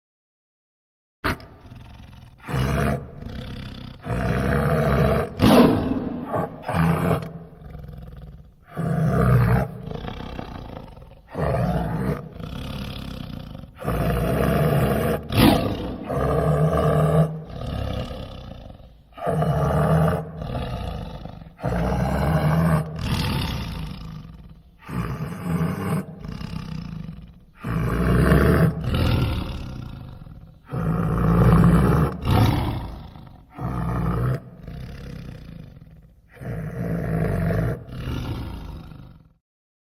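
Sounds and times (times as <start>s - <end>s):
big cat roars and growls: 1.2s - 39.4s.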